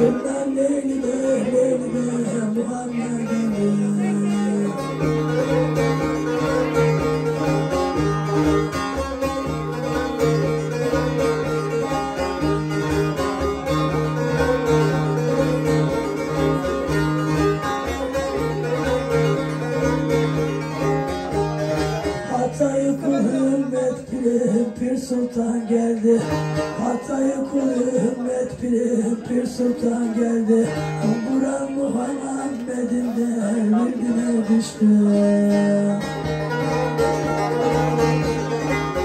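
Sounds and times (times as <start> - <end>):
plucked lute melody: 0.0 - 39.0.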